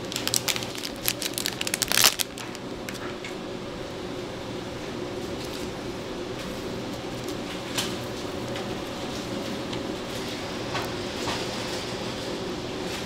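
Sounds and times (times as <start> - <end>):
shop machinery humming: 0.0 - 13.0.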